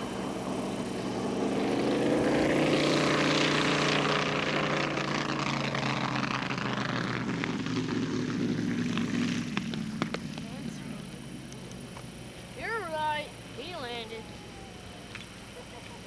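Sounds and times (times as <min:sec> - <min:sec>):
propeller aircraft flying past: 0:00.0 - 0:16.0.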